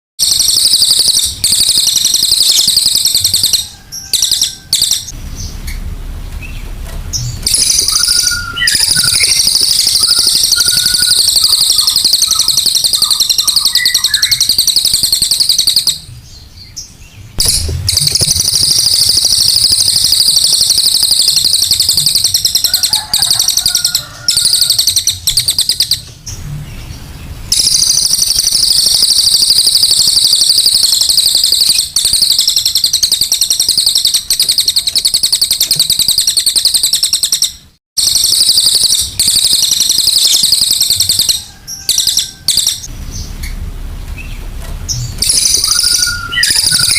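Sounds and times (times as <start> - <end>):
songbird fast chattering trill: 0.2 - 5.6, 7.2 - 16.1, 17.4 - 26.1, 27.5 - 43.3, 45.2 - 46.9.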